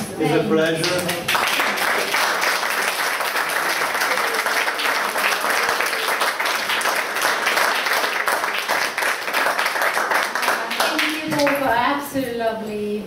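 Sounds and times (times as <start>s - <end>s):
audience applauding: 0.8s - 11.7s.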